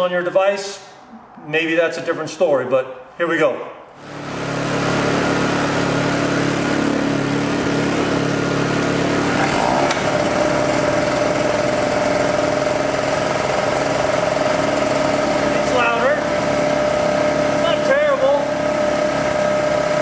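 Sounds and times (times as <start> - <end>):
generator engine running: 4.0 - 20.0.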